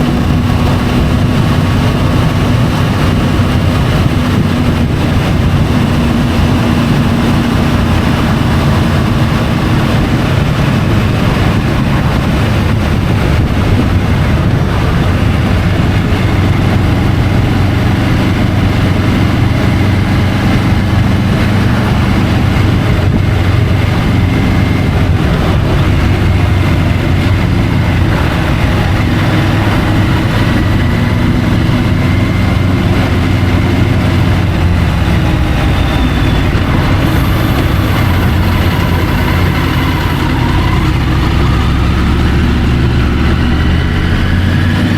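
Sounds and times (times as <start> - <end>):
motorcycle engine running: 0.0 - 44.9
steady rushing noise: 0.0 - 44.9.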